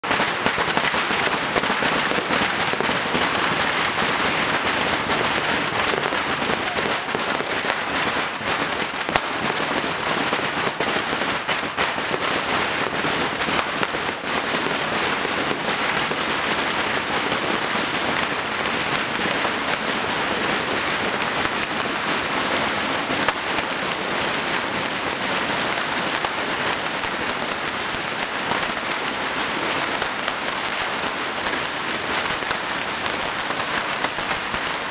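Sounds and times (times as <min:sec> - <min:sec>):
firecrackers crackling: 0:00.0 - 0:34.9
loud firework cracks: 0:00.0 - 0:34.9.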